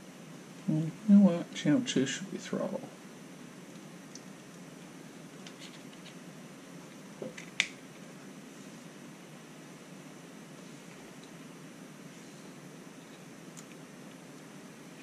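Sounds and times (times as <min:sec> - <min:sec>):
room hiss: 0:00.0 - 0:15.0.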